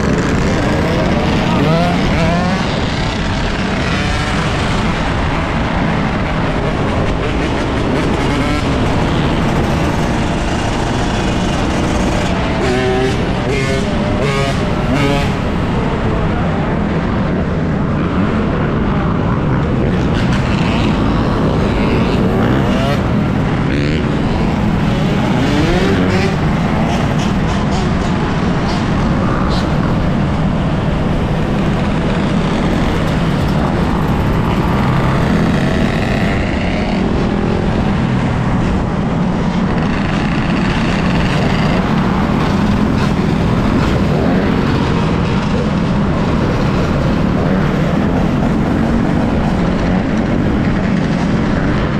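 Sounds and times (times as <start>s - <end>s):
motorcycle engine: 0.0s - 16.7s, 18.0s - 51.9s
wind and road noise: 0.0s - 51.9s.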